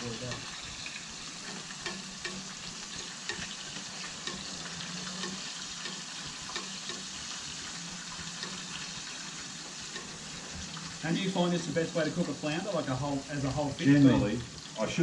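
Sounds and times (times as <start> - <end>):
fish sizzling in hot oil: 0.0 - 15.0
oil crackling and popping: 0.0 - 15.0.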